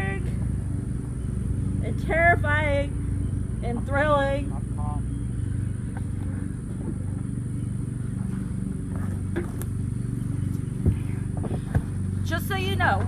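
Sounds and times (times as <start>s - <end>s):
low hum with overtones: 0.0s - 13.0s.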